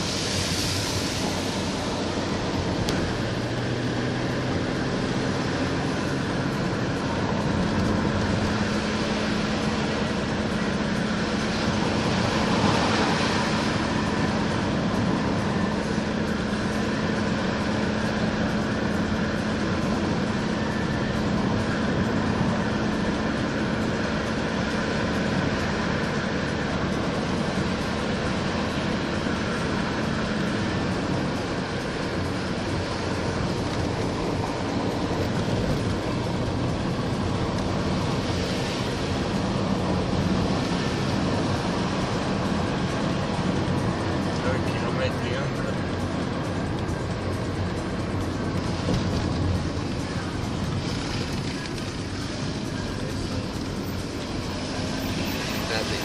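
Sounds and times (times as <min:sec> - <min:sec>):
tyre and wind rush: 0:00.0 - 0:45.1
car engine hum: 0:00.0 - 0:56.0.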